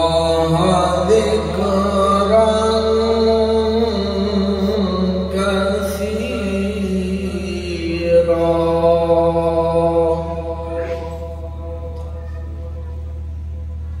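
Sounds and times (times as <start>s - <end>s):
man chanting through loudspeaker: 0.0s - 13.5s.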